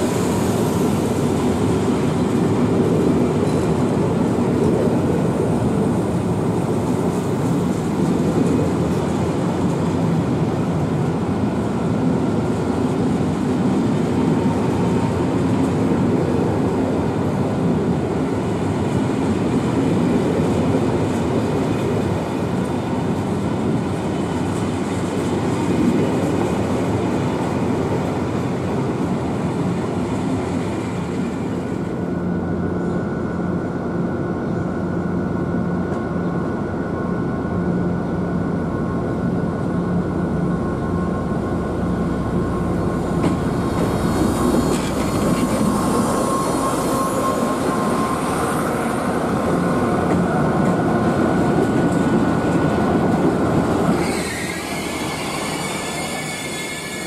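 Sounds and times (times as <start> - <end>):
diesel locomotive engine humming: 0.0 - 57.0
rail and wheel noise: 0.0 - 57.0.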